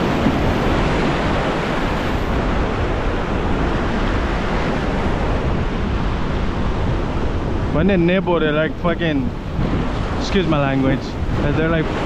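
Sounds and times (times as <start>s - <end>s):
ocean surf rushing: 0.0s - 12.0s
wind on microphone: 0.0s - 12.0s.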